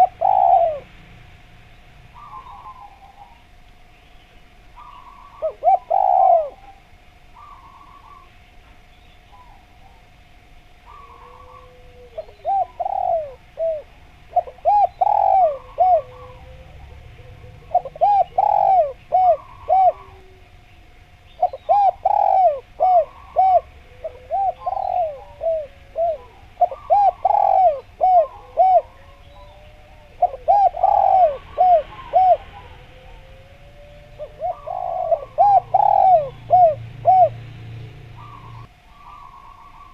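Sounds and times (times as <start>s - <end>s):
dove cooing: 0.0s - 1.0s, 2.1s - 3.6s, 4.8s - 8.5s, 10.8s - 39.9s
small birds chirping: 1.6s - 10.1s, 10.8s - 33.3s, 33.9s - 39.9s.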